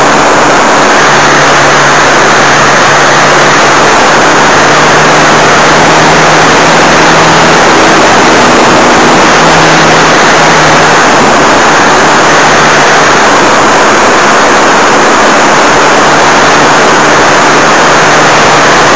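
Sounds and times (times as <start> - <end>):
model airplane motor and propeller: 0.0 - 18.9.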